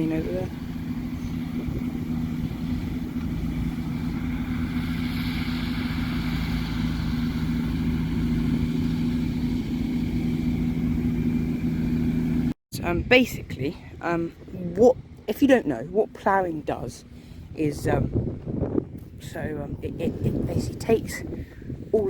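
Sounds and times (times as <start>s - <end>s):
wind on microphone: 0.0s - 8.8s, 12.7s - 22.0s
tractor engine running: 0.0s - 22.0s.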